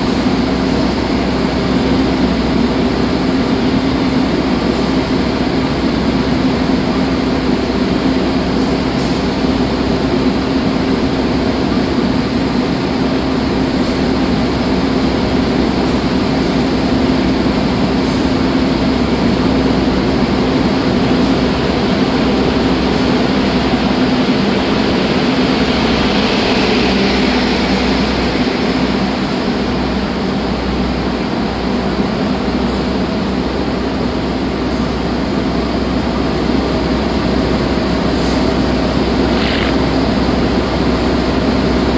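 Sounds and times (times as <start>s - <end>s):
diesel train engine humming: 0.0s - 41.9s
train wheels rolling on rails: 0.0s - 41.9s.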